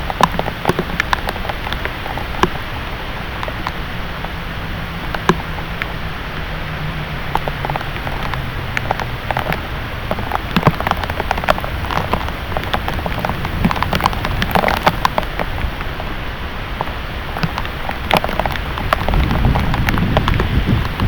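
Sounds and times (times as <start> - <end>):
heavy rain falling: 0.0 - 21.0
raindrops ticking close by: 0.0 - 21.0.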